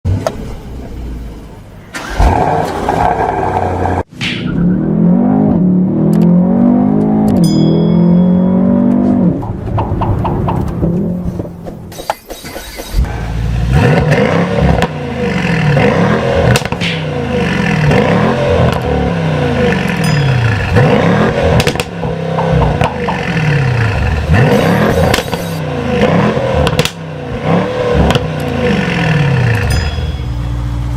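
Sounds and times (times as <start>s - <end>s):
car engine revving: 1.9s - 7.4s, 8.0s - 29.8s.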